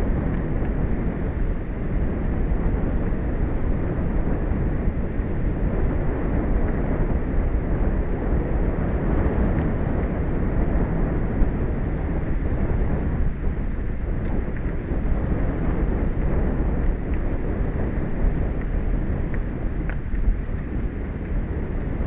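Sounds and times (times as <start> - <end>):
wind and sea rumble: 0.0 - 22.0
wind buffeting microphone: 0.0 - 22.0.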